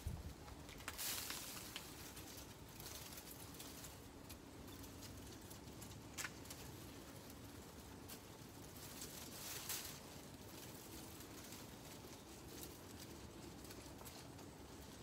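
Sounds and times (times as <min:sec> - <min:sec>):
light patter: 0:00.0 - 0:15.0
small ticks: 0:00.4 - 0:15.0.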